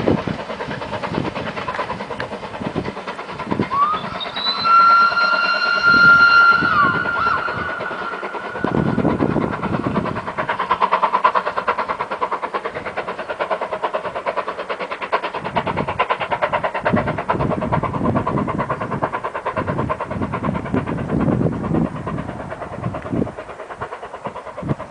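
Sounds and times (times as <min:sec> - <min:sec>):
steam locomotive exhaust beat: 0:00.0 - 0:24.9.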